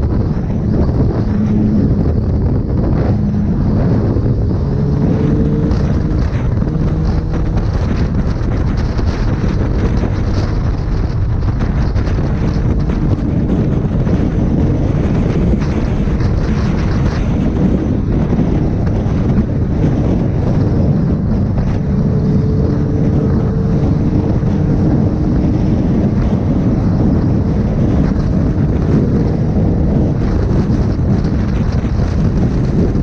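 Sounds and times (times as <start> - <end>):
motorcycle engine running: 0.0 - 33.0
wind rushing on microphone: 0.0 - 33.0.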